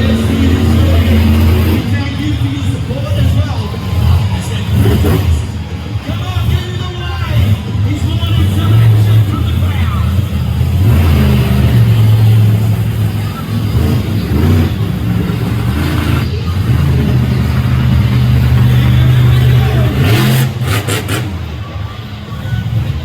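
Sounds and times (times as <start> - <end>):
truck engine revving loud: 0.0 - 23.0.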